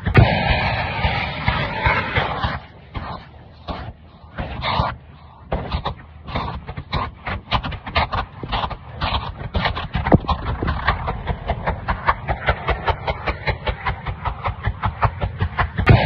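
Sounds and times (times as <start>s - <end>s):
rapid footsteps: 0.9s - 16.0s.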